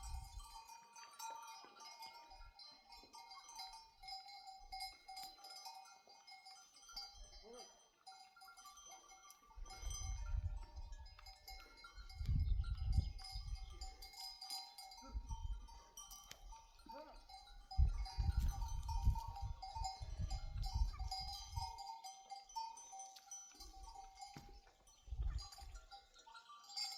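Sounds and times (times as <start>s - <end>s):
sheep bells ringing: 0.0s - 26.9s.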